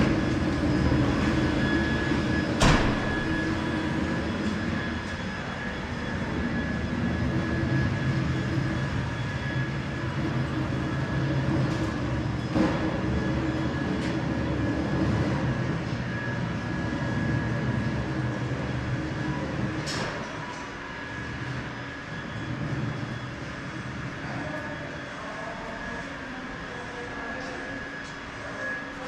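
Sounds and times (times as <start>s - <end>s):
diesel engine running: 0.0s - 25.5s
high whine: 0.0s - 29.0s.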